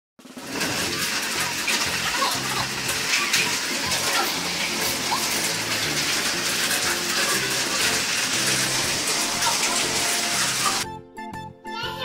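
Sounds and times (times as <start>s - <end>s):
hailstones ticking: 0.2s - 10.8s
heavy rain hissing: 0.4s - 10.8s.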